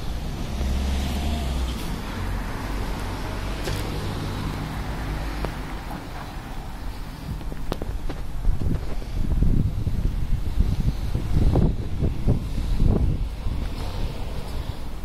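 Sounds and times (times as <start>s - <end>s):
car engine rumbling: 0.0s - 15.0s
traffic noise: 0.0s - 15.0s.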